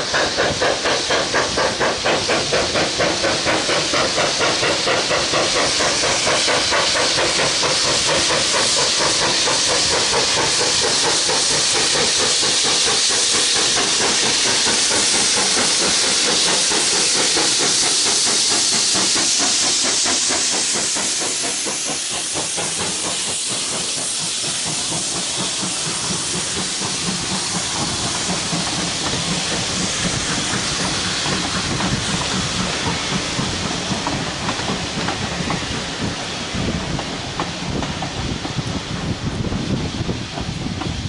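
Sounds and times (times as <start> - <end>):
steam locomotive hissing: 0.0 - 41.0
train wheels clicking on track: 0.0 - 41.0.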